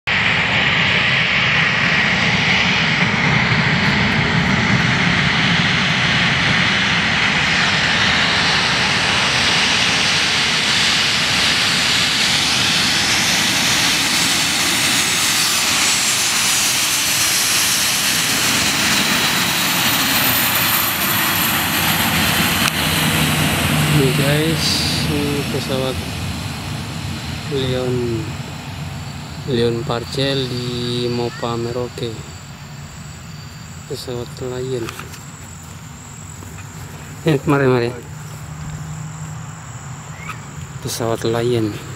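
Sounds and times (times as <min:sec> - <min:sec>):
high turbine whine: 0:00.0 - 0:41.9
jet engines running: 0:00.1 - 0:41.9.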